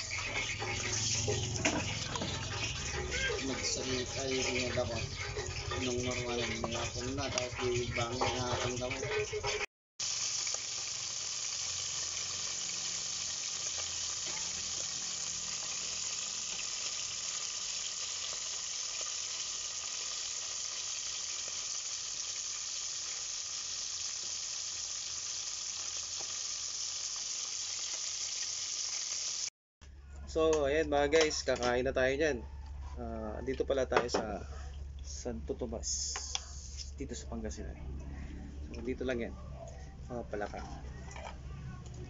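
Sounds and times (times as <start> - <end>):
frogs deep-frying in oil: 0.0 - 29.5, 35.1 - 38.0, 40.1 - 42.0.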